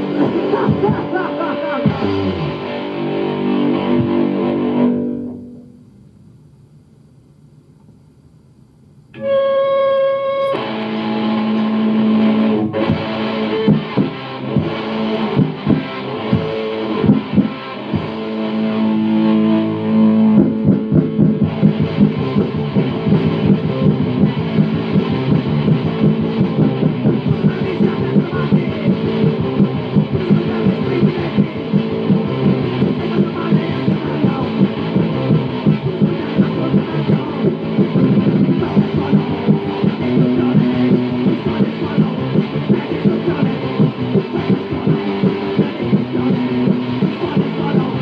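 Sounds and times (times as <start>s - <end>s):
punk rock band playing: 0.0s - 5.8s, 9.2s - 48.0s
distorted electric guitar note: 0.0s - 6.0s, 9.1s - 48.0s
drums: 0.0s - 48.0s.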